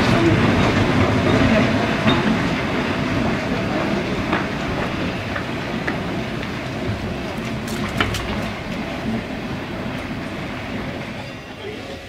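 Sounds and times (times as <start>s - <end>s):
tram rumbling along rails: 0.0s - 12.0s.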